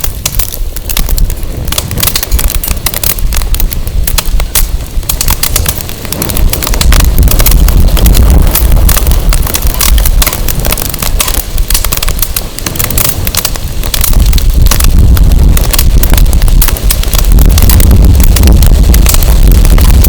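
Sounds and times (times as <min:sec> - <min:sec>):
firewood crackling and popping: 0:00.0 - 0:20.0
wind buffeting microphone: 0:00.0 - 0:20.0.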